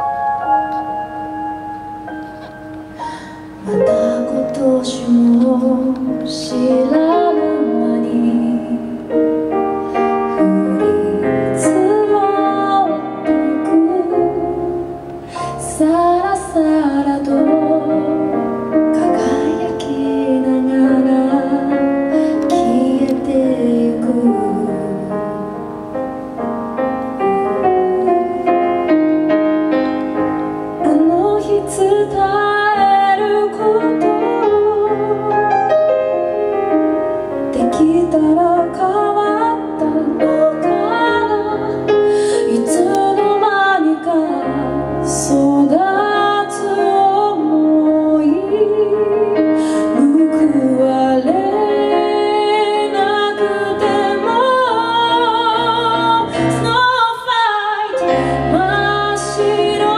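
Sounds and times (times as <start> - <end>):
piano: 0.0 - 59.9
woman singing: 3.1 - 9.3, 10.2 - 25.4, 30.8 - 35.8, 37.5 - 59.9.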